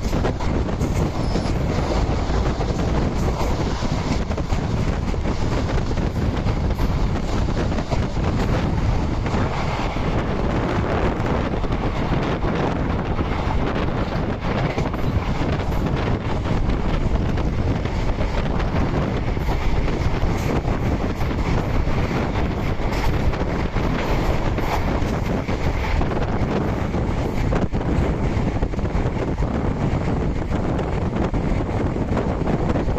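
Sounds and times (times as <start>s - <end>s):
train wheels rumbling on track: 0.0s - 32.9s
wind buffeting microphone: 0.0s - 32.9s.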